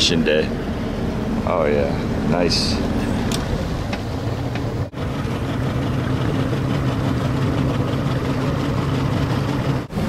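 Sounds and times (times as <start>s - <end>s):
motorboat engine humming: 0.0s - 10.0s.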